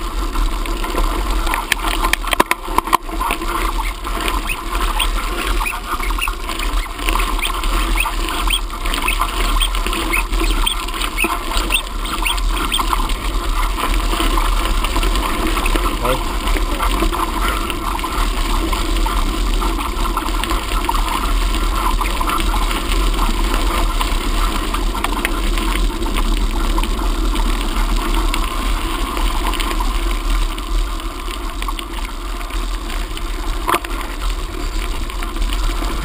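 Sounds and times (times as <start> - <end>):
bicycle rattles and clicks: 0.0 - 36.0
wind rumble on microphone: 0.0 - 36.0.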